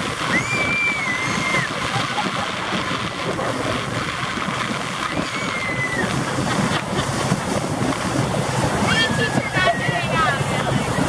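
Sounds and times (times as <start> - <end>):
water rushing: 0.0 - 11.0
wind noise: 0.0 - 11.0.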